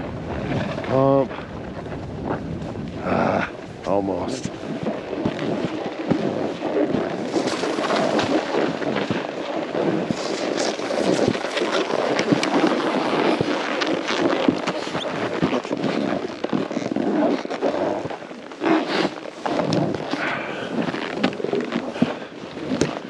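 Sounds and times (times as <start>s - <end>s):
snowboard sliding through snow: 0.0s - 23.0s.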